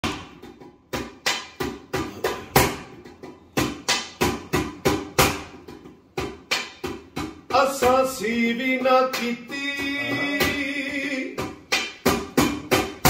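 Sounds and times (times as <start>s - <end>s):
hand-struck percussion beat: 0.0s - 13.0s.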